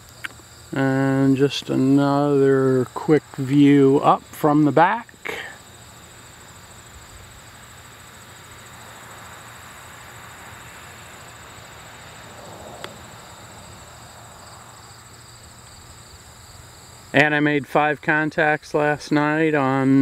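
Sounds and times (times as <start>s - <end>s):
crickets and insects chirring: 0.0s - 20.0s.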